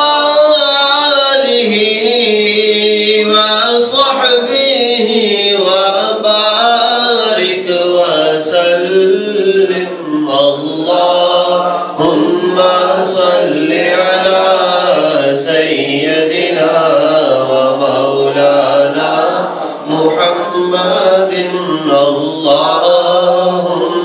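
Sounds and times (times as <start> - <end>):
man chanting devotional song: 0.0 - 24.0.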